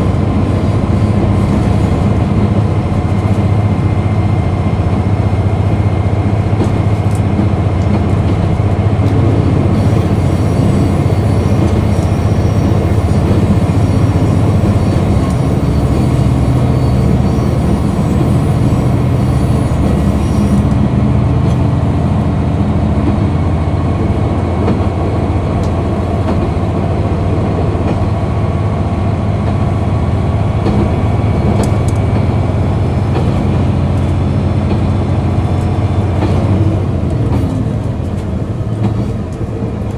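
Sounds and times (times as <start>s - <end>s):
diesel railcar engine: 0.0s - 39.9s
wheels rumbling on rails: 0.0s - 39.9s.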